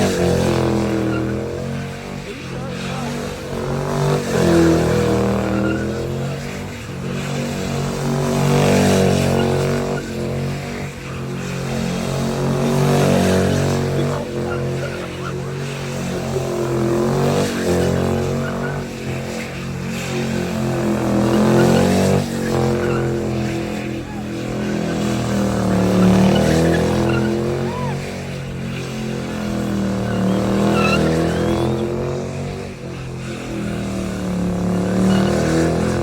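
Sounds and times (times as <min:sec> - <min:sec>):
car engine revving hard: 0:00.0 - 0:36.0.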